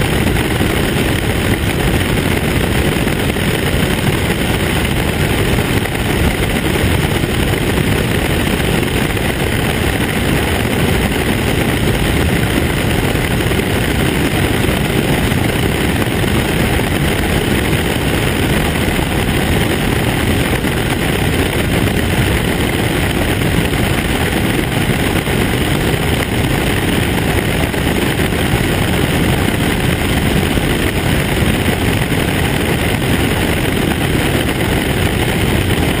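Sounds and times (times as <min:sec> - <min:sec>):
light aircraft engine roar: 0:00.0 - 0:36.0
rushing airflow: 0:00.0 - 0:36.0.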